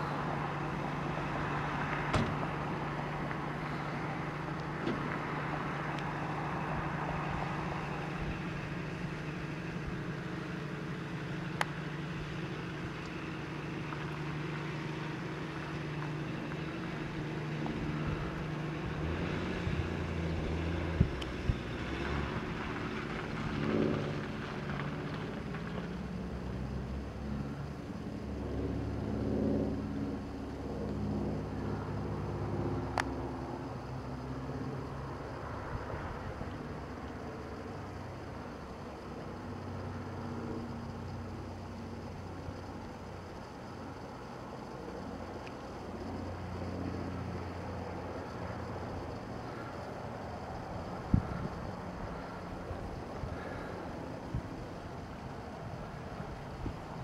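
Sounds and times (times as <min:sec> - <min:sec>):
engine hum: 0:00.0 - 0:57.0.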